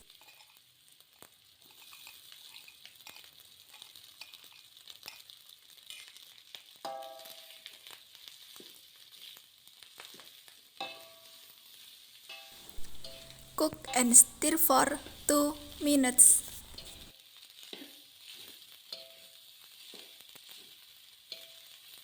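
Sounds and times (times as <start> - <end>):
rice sizzling in oil: 0.2 - 13.6, 16.6 - 22.0.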